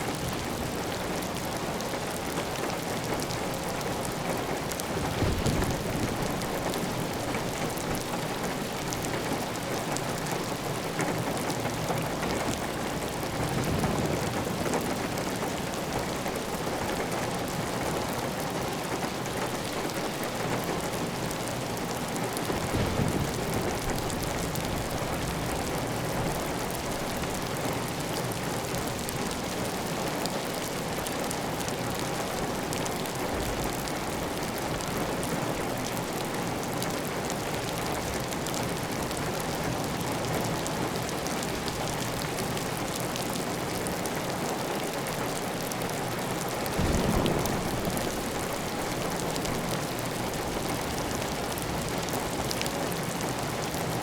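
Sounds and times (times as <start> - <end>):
heavy rain on a tile roof: 0.0 - 54.0.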